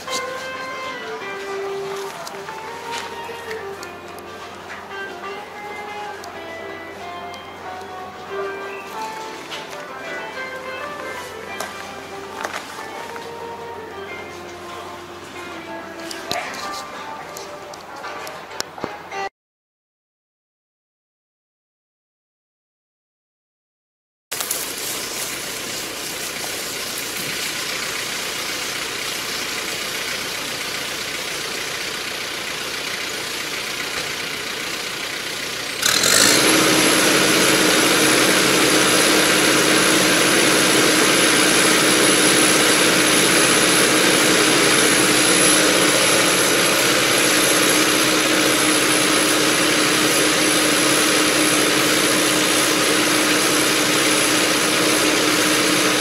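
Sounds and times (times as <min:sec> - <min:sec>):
steady whine: 0:00.0 - 0:18.0, 0:24.4 - 0:56.0
tractor diesel engine running: 0:00.0 - 0:19.2, 0:24.3 - 0:56.0.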